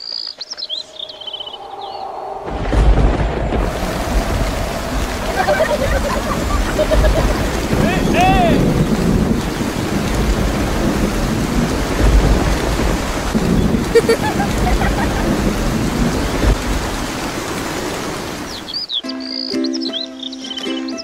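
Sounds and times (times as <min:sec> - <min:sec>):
heavy rain falling: 0:00.7 - 0:18.9
low thunder rumbling: 0:01.0 - 0:18.7.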